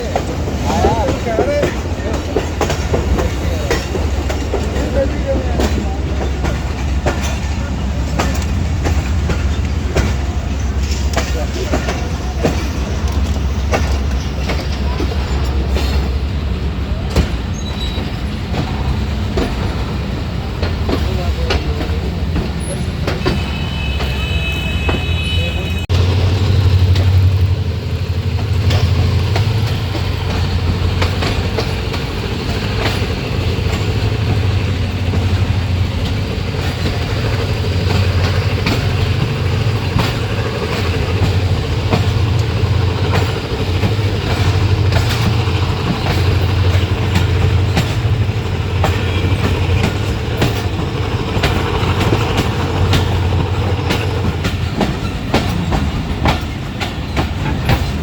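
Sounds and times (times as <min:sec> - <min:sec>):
train coach rumbling: 0:00.0 - 0:58.0
wheels clicking over rail joints: 0:00.0 - 0:58.0.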